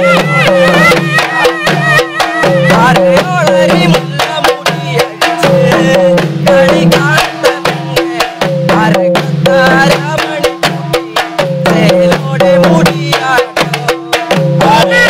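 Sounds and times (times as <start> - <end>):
drums beaten with sticks: 0.0 - 15.0.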